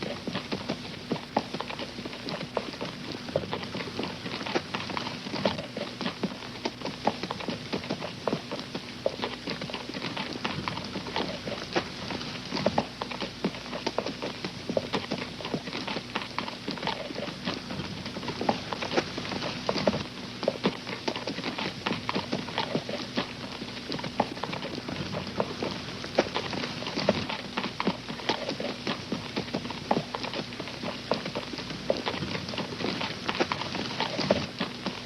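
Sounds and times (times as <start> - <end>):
horse hooves clip-clopping: 0.0 - 35.0.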